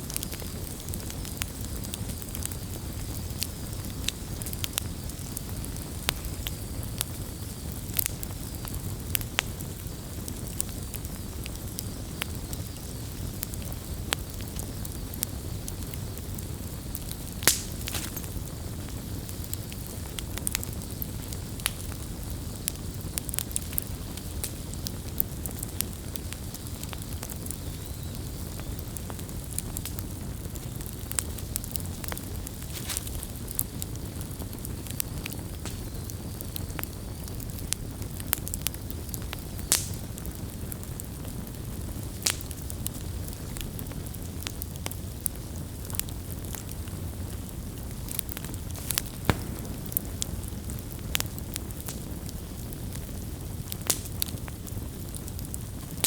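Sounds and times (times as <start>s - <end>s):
fire crackles and pops: 0.0s - 56.0s
wood fire rumbling: 0.0s - 56.0s.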